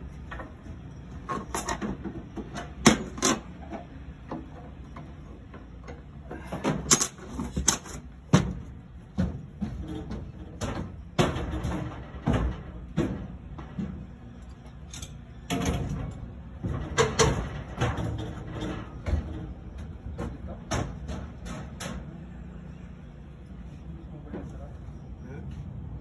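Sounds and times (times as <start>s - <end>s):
metal knocks and clanks: 0.2s - 22.1s.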